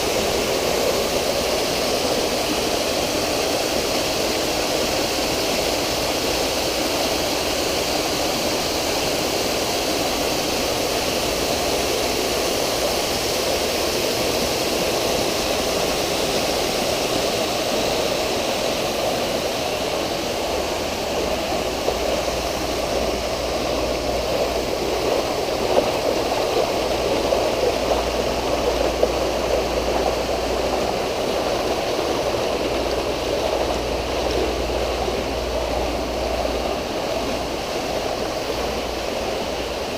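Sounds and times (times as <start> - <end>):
water splashing into pool: 0.0 - 39.9.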